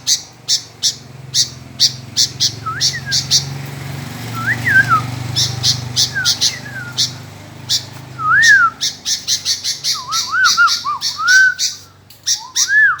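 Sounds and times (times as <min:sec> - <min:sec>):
bird chattering notes: 0:00.0 - 0:03.6, 0:04.2 - 0:13.0
bird singing fluty whistles: 0:01.4 - 0:03.5, 0:04.3 - 0:13.0.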